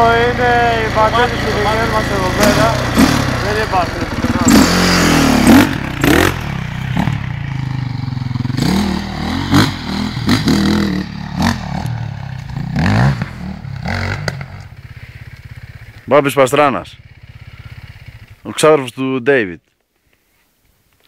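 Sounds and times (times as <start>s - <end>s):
dirt bike engine revving: 0.0s - 18.6s.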